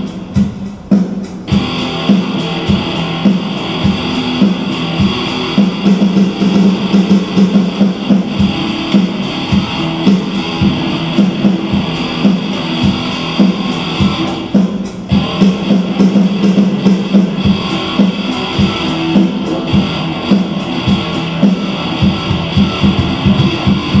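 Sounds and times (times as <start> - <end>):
guitar music with steady beat: 0.0 - 24.0.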